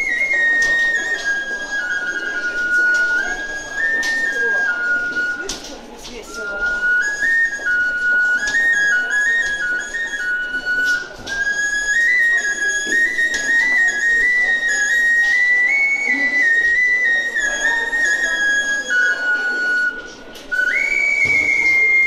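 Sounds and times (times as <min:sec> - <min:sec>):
ocarina melody: 0:00.0 - 0:22.0.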